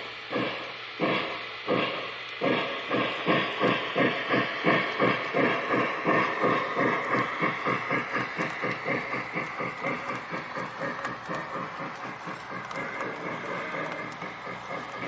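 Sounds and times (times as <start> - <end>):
steam hiss: 0.0 - 15.0
steam locomotive chuffing: 0.0 - 15.0.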